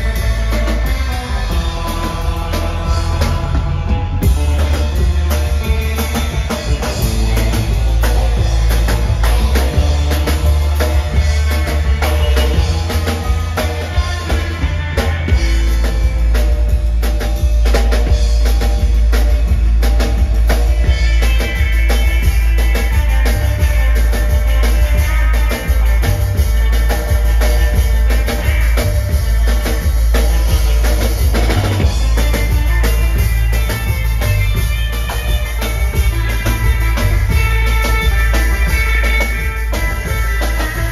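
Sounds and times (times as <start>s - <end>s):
drum kit: 0.0s - 40.9s
surf rock band playing: 0.0s - 40.9s.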